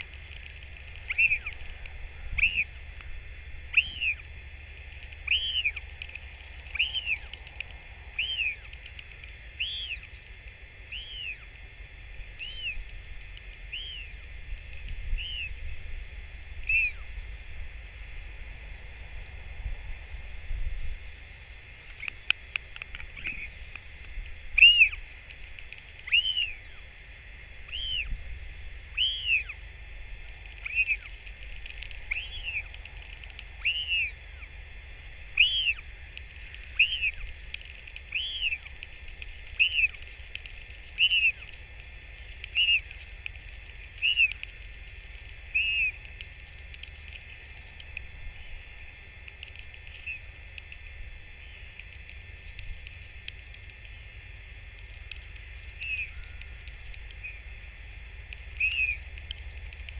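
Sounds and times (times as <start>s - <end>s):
bird calling: 0.0s - 11.6s, 12.3s - 12.9s, 13.6s - 14.3s, 15.1s - 15.7s, 16.6s - 17.1s, 21.7s - 28.2s, 28.8s - 59.9s.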